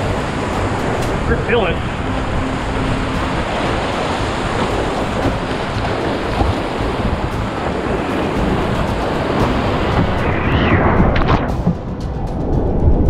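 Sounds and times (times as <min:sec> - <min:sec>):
whitewater rushing: 0:00.0 - 0:12.5
wind buffeting microphone: 0:00.0 - 0:13.0.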